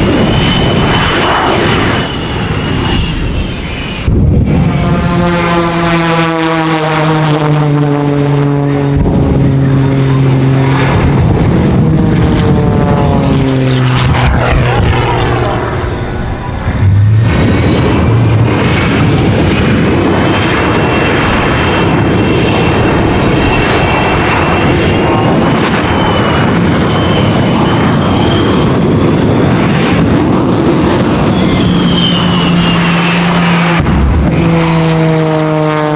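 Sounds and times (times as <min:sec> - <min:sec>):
jet engines blasting: 0:00.0 - 0:35.9
propeller plane passing low: 0:00.0 - 0:35.9.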